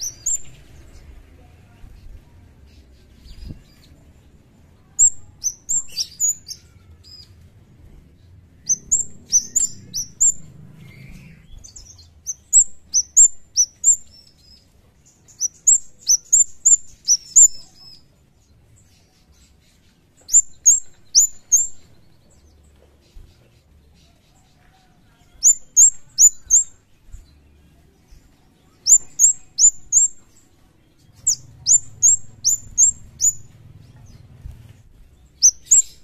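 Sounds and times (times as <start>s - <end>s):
bird chirping: 0.0s - 7.4s, 8.1s - 36.0s.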